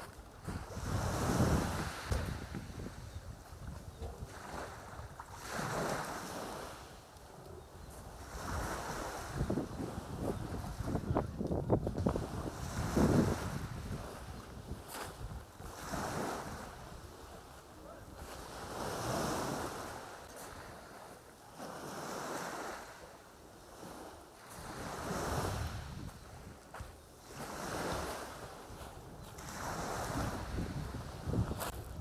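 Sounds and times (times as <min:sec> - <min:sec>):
sea waves breaking on beach: 0:00.0 - 0:32.0.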